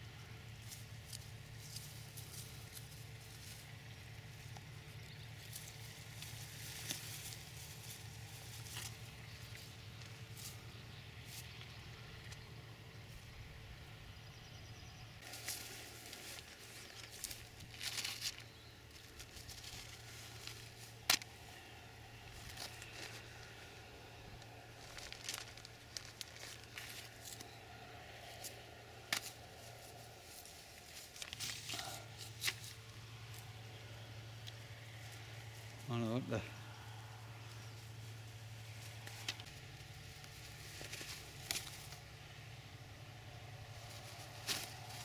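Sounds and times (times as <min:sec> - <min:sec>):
rustling through long grass: 0:00.1 - 0:14.1, 0:15.2 - 0:45.0.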